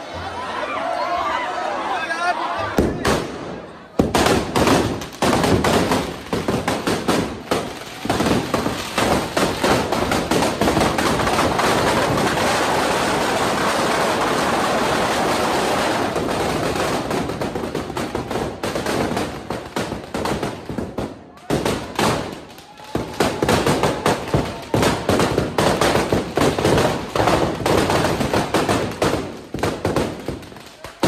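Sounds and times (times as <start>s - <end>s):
firecrackers banging and crackling: 2.8s - 31.0s.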